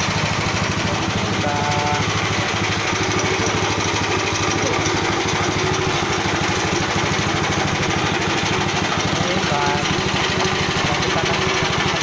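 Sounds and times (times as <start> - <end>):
machine engine running with pulse: 0.0 - 12.0.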